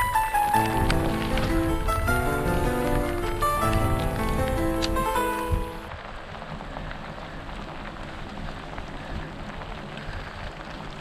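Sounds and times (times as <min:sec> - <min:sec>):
heavy rain on rocks: 0:00.0 - 0:11.0.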